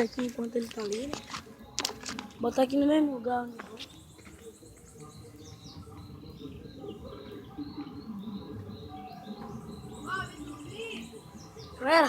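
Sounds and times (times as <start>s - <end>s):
faint bird chirps: 0.0s - 12.0s
low outdoor background noise: 0.0s - 12.0s.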